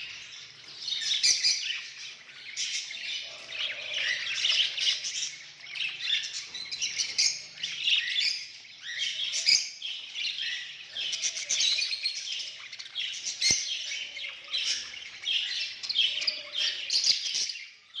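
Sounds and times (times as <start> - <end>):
budgerigars chattering and warbling: 0.0 - 17.7.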